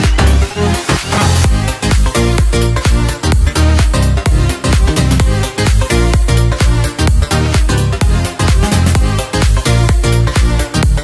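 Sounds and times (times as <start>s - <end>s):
kick drum: 0.0s - 0.4s, 1.4s - 11.0s.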